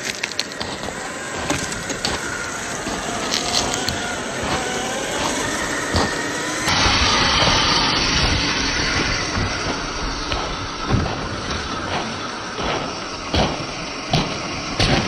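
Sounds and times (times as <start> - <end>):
electric motor whining: 0.0 - 15.0
loud rushing noise: 0.0 - 15.0
tyres clicking on stones: 0.0 - 15.0.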